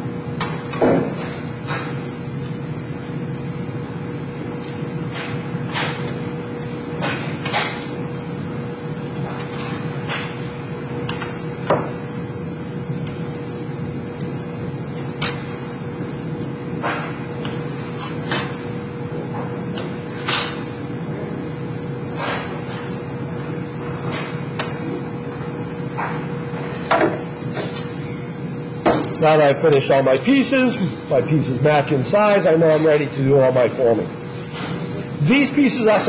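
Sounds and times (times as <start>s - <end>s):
steady hum with low tone: 0.0s - 36.0s.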